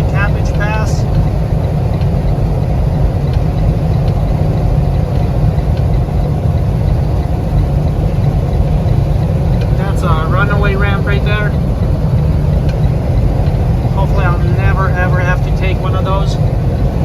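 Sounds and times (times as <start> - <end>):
road noise: 0.0 - 17.0
truck diesel engine rumble: 0.0 - 17.0.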